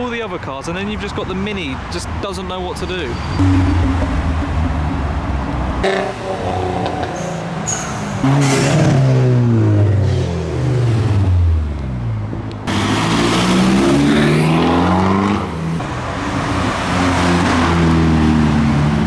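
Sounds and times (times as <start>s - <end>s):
car engines driving past: 0.9s - 19.0s
car accelerating: 2.8s - 19.0s.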